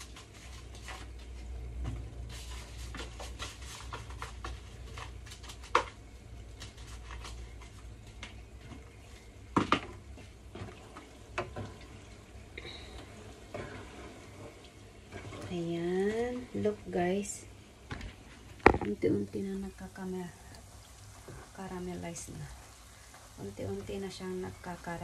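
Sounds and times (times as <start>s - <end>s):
crackle of frying: 0.0s - 25.0s.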